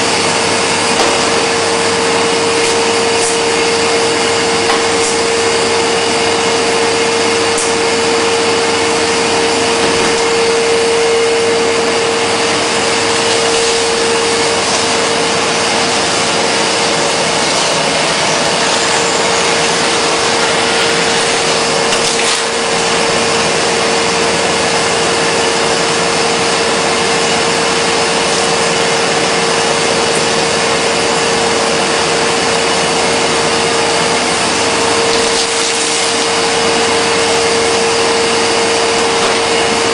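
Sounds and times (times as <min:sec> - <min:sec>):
mid-pitched hum: 0:00.0 - 0:39.9
steam cabinet rushing noise: 0:00.0 - 0:39.9.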